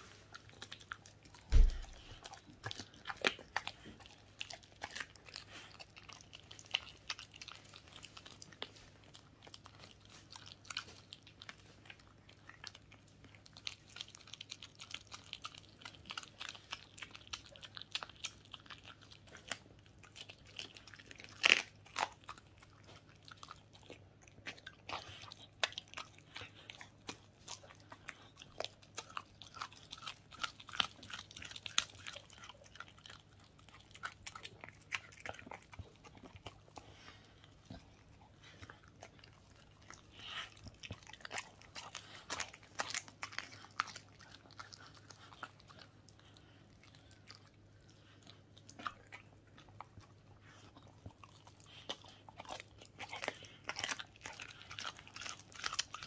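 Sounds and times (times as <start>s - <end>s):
dog chewing and crunching bones: 0.0s - 56.0s.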